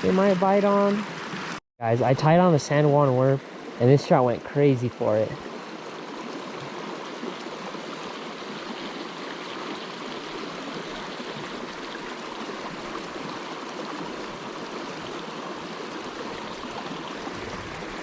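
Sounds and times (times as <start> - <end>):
creek babbling over rocks: 0.0 - 18.0.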